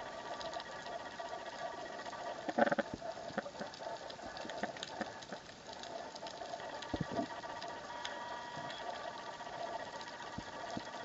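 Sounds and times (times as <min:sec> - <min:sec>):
thin steady hum: 0:00.0 - 0:11.0
crackle of small sharp clicks: 0:00.3 - 0:11.0.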